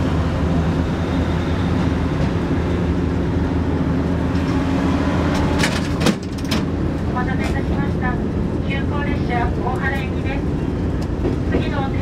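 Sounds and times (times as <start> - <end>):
diesel railcar engine droning: 0.0 - 12.0.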